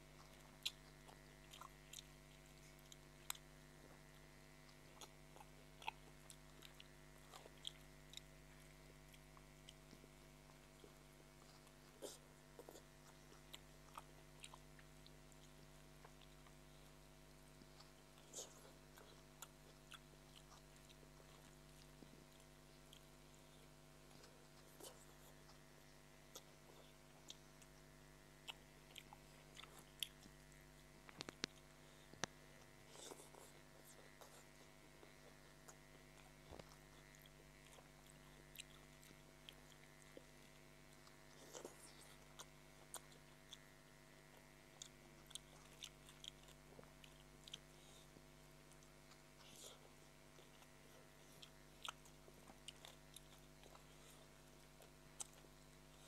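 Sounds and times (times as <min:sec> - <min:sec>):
chewing and mouth sounds: 0:00.0 - 0:56.0
faint steady hum: 0:00.0 - 0:56.0.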